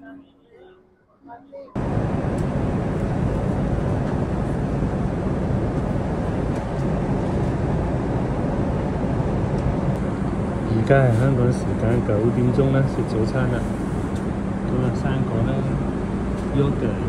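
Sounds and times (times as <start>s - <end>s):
airliner cabin engine and airflow noise: 1.7s - 17.0s.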